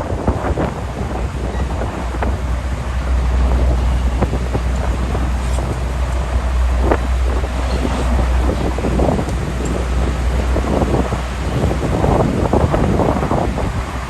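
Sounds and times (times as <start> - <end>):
ferry engine rumble: 0.0 - 14.0
wind buffeting microphone: 0.0 - 14.0.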